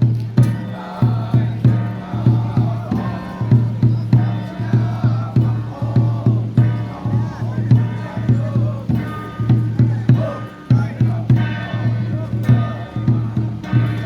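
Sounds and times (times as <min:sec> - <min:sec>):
steady low drum beat: 0:00.0 - 0:14.0
group chanting: 0:00.2 - 0:14.0.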